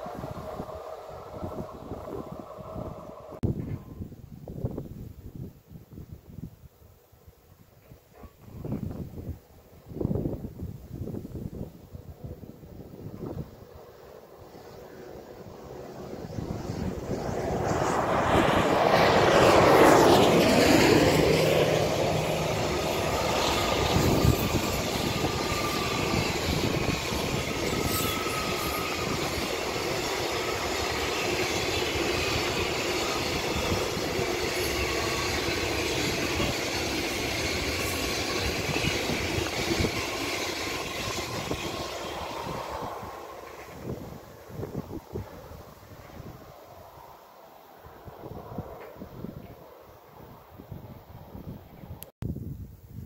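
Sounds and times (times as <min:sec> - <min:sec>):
train wheels rumbling on rail: 0:00.0 - 0:05.0, 0:07.7 - 0:46.5
electric locomotive passing: 0:00.0 - 0:05.3, 0:07.2 - 0:52.1.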